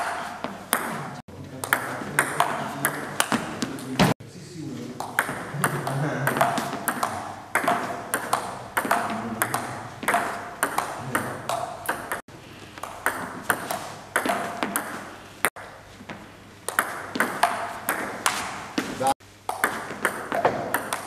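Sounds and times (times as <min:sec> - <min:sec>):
ball bouncing on table: 0:00.0 - 0:04.2, 0:05.0 - 0:12.2, 0:12.8 - 0:15.1, 0:16.1 - 0:18.9, 0:19.5 - 0:21.0
table tennis ball hitting paddles: 0:00.0 - 0:04.2, 0:05.0 - 0:12.2, 0:12.8 - 0:21.0.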